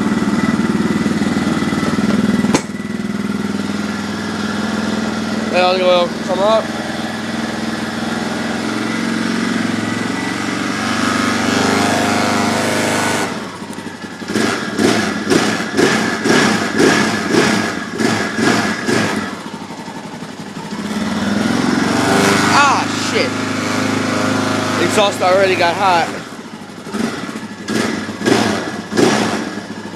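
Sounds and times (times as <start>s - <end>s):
engine idling and revving: 0.0s - 29.9s.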